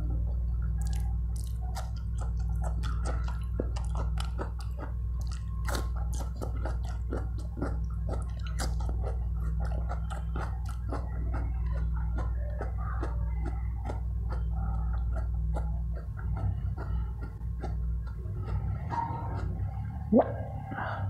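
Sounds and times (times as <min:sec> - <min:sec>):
person chewing and smacking: 0:00.0 - 0:20.4
steady low hum: 0:00.0 - 0:21.0.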